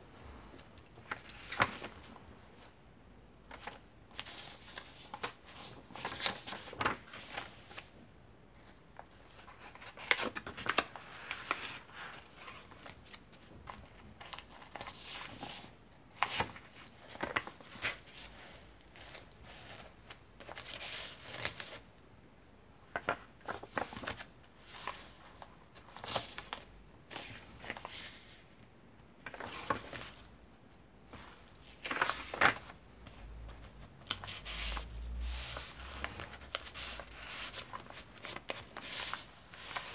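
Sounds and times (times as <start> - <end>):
paper pages rustling: 0.4 - 2.7, 3.5 - 7.9, 8.6 - 21.9, 22.9 - 28.4, 29.2 - 30.3, 31.1 - 39.9.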